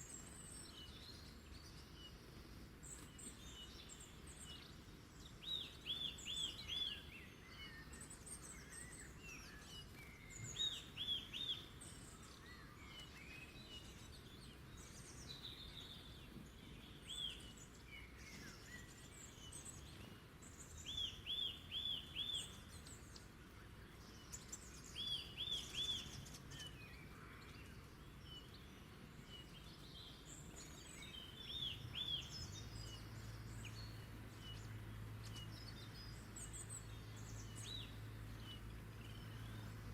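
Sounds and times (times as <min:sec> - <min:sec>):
background hiss: 0:00.0 - 0:39.9
birds singing: 0:00.0 - 0:39.9
low steady hum: 0:00.0 - 0:39.9.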